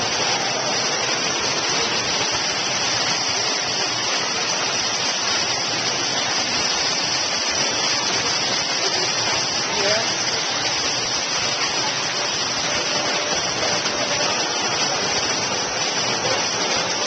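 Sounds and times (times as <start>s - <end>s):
waterfall pouring into a pool: 0.0s - 17.0s.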